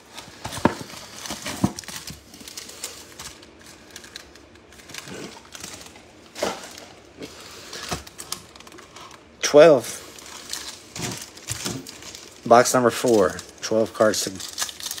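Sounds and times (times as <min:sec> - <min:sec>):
foil packs crinkling: 0:00.0 - 0:15.0.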